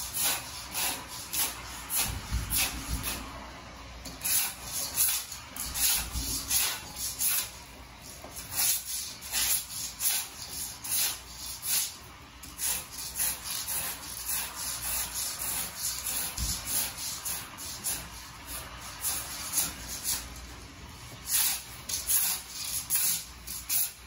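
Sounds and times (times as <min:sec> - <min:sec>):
hand scraper scraping floor: 0:00.0 - 0:24.0.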